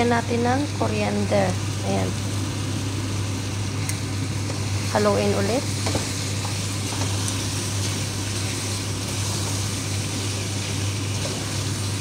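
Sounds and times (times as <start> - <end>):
steady low hum: 0.0 - 12.0
stew sizzling in a pot: 0.0 - 12.0.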